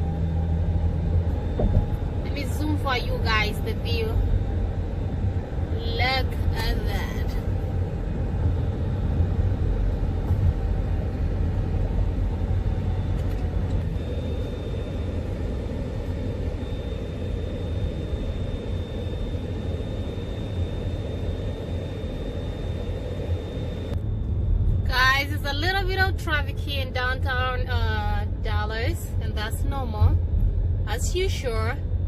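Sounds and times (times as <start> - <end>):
car road and engine rumble: 0.0 - 32.0
faint high whine: 0.0 - 32.0.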